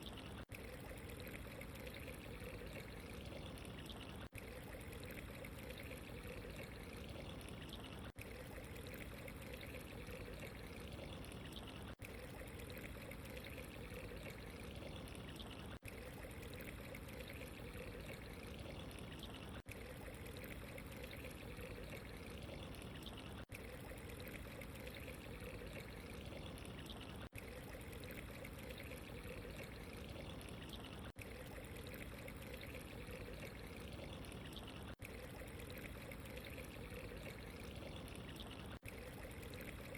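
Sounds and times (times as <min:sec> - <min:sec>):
running trickling water: 0:00.0 - 0:39.9.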